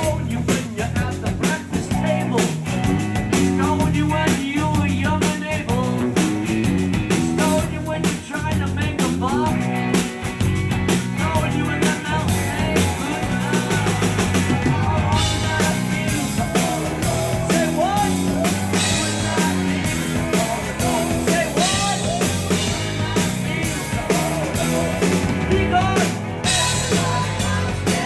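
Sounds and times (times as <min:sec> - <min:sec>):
drum kit beat: 0:00.0 - 0:28.0
live rock band playing: 0:00.0 - 0:28.0.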